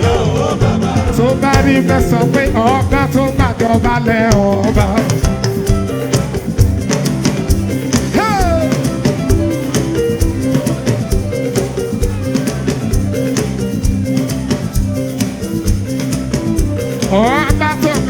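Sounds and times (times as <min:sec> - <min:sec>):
church band instrumental music: 0:00.0 - 0:18.0
steady percussion beat: 0:00.0 - 0:18.0.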